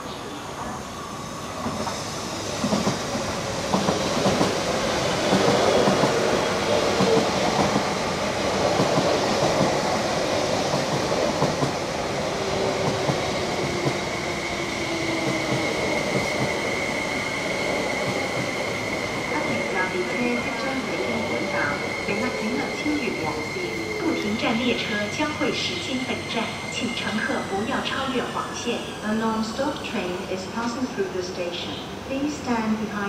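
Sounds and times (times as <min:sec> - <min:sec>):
high train whine: 0:00.0 - 0:33.0.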